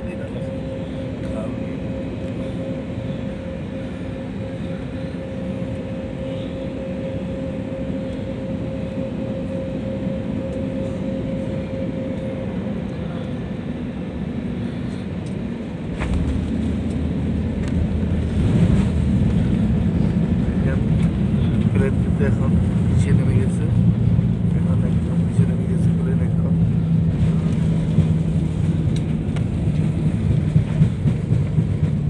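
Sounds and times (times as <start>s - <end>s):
aircraft engine and airflow noise: 0.0s - 32.0s
steady whine: 0.0s - 32.0s.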